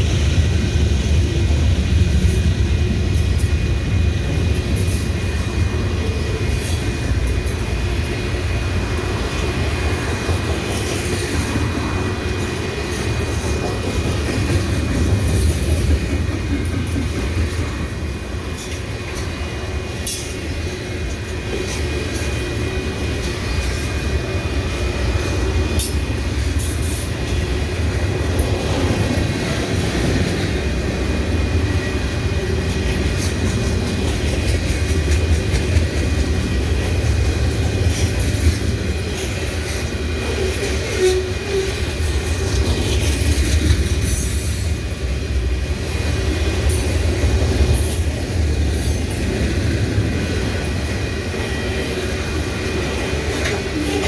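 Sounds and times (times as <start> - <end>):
clicks of wheels on rail: 0.0 - 54.0
freight train rolling past: 0.0 - 54.0.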